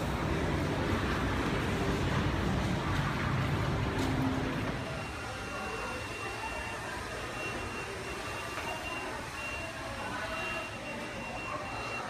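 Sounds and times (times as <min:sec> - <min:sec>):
busy open space background noise: 0:00.0 - 0:12.0.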